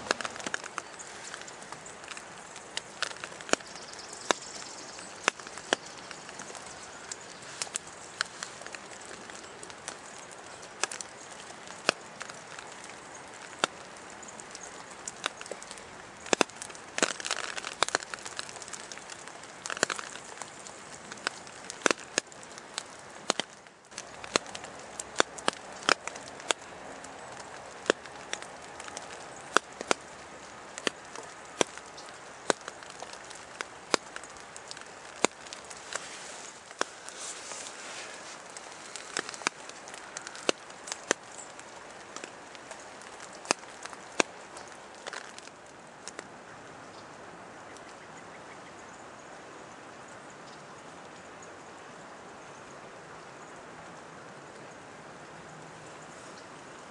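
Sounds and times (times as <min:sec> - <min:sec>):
sharp ticks and pops: 0:00.0 - 0:46.3
steady soft hiss: 0:00.0 - 0:56.9.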